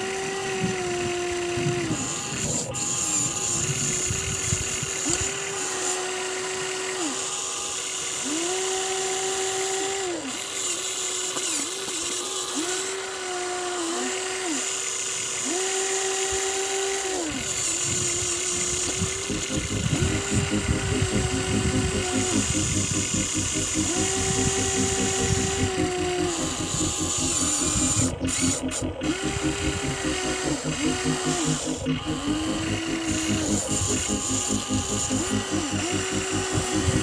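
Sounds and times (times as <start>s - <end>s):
toy excavator motors whining: 0.0s - 37.0s.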